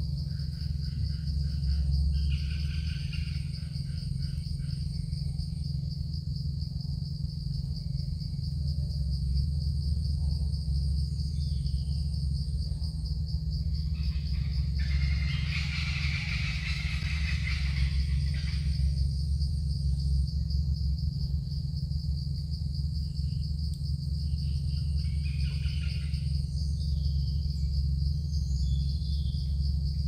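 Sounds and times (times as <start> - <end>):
crickets trilling: 0.0 - 30.0
low rumble: 0.0 - 30.0
lower pulsing insect call: 0.0 - 30.0.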